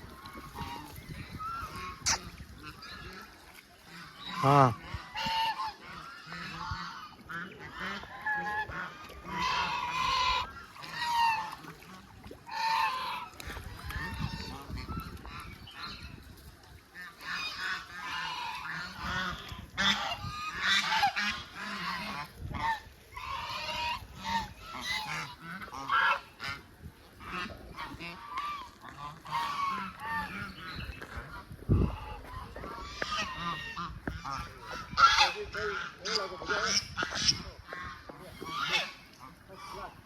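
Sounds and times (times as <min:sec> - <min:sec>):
waterfowl honking: 0:00.0 - 0:16.3, 0:16.9 - 0:40.0.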